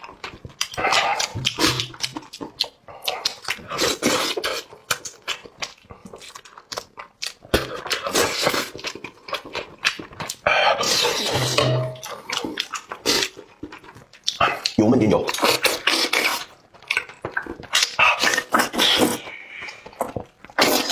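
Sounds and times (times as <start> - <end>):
slurping and chewing: 0.0 - 20.9.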